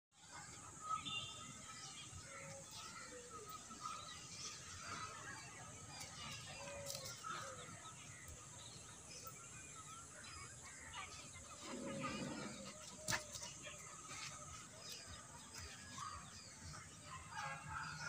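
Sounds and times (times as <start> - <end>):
bird calls and chirps: 0.2 - 18.0.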